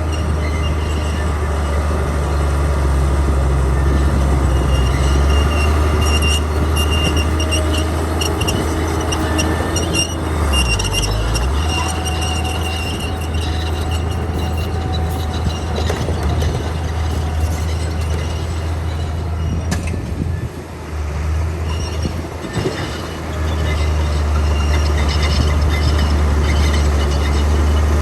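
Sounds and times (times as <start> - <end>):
steel tracks squealing: 0.0 - 20.8, 21.4 - 28.0
bulldozer diesel engine under load: 0.0 - 28.0.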